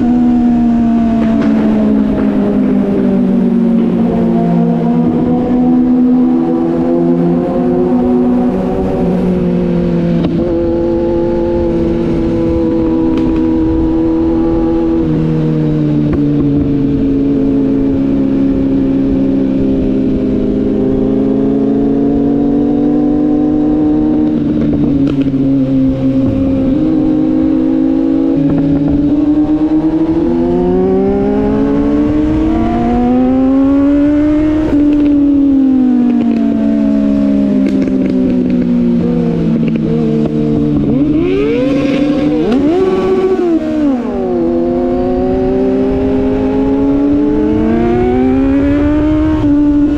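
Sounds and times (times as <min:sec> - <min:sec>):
motorcycle engine running: 0:00.0 - 0:49.9
wind noise: 0:00.0 - 0:49.9.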